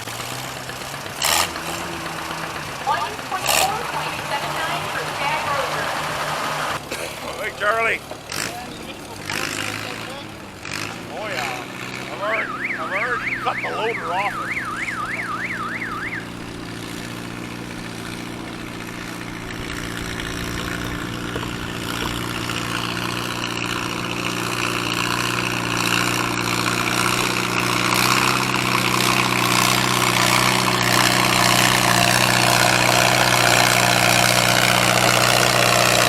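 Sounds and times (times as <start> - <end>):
tractor engine pulling under load: 0.0 - 36.0.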